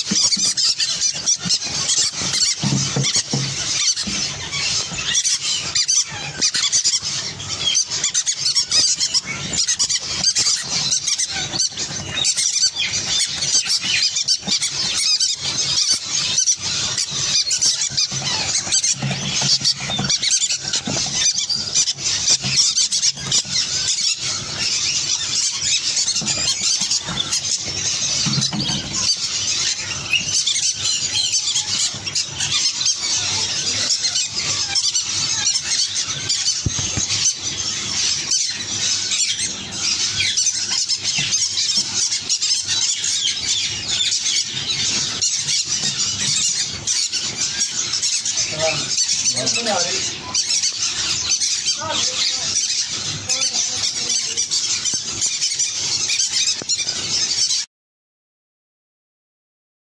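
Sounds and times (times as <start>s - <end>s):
parrots squealing and chattering: 0.0s - 57.7s.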